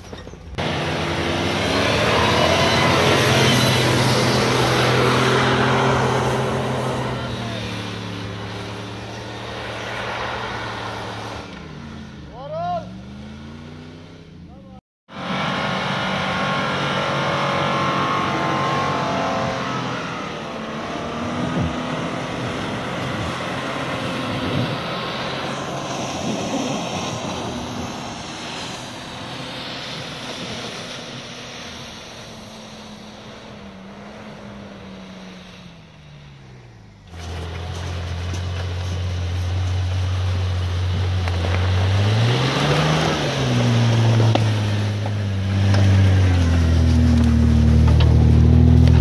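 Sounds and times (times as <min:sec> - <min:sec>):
off-road vehicle engines running: 0:00.0 - 0:49.0.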